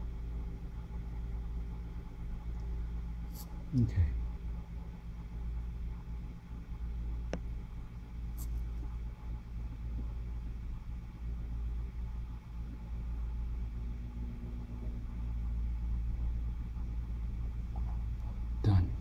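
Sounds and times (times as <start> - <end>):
faint rumble: 0.0 - 19.0
low background hum: 0.0 - 19.0.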